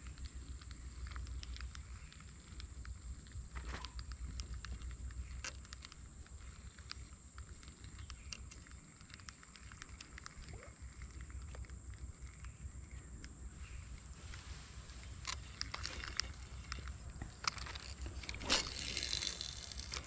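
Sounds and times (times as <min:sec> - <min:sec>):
light clicks and ticks: 0:00.0 - 0:20.0
low wind rumble: 0:00.0 - 0:20.0.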